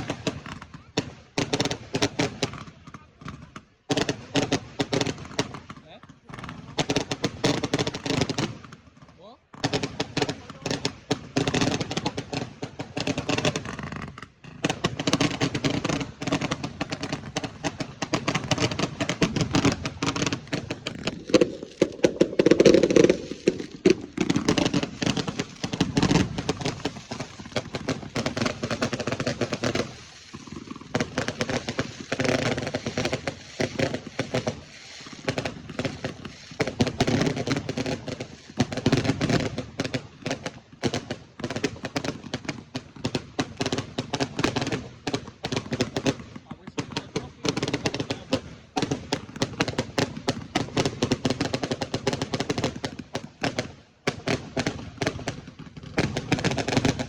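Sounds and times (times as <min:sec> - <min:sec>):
fireworks cracking and banging: 0:00.0 - 0:57.0.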